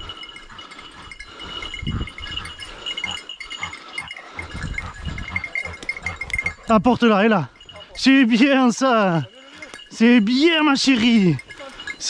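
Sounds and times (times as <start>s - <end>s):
dog bell tinkling: 0.0s - 12.0s.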